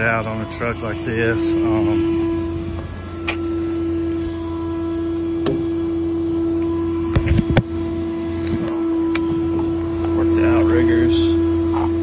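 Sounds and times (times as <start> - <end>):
truck machine hum: 0.0 - 12.0.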